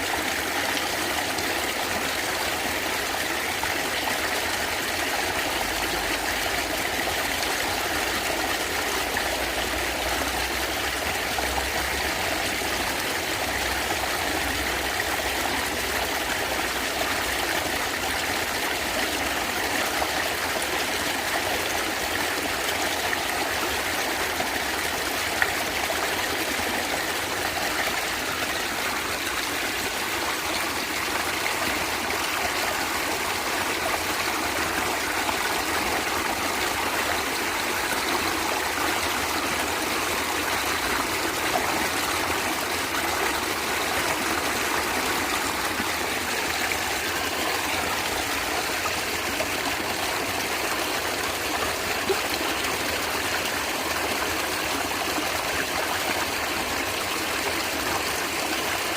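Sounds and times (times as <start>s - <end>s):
stream water gurgling: 0.0s - 58.9s.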